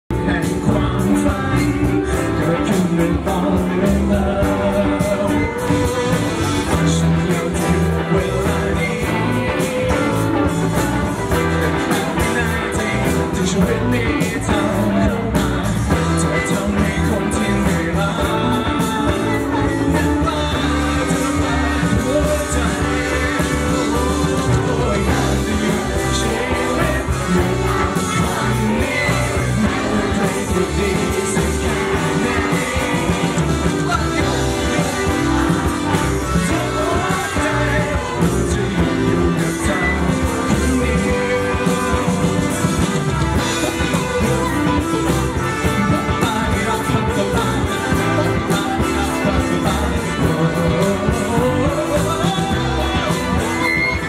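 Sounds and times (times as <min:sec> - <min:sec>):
live rock band: 0:00.0 - 0:54.0
man singing: 0:00.0 - 0:54.0.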